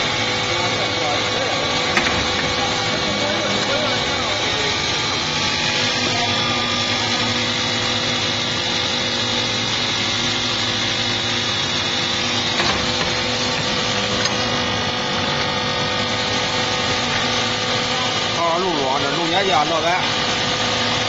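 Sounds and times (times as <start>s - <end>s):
machinery running: 0.0s - 21.0s.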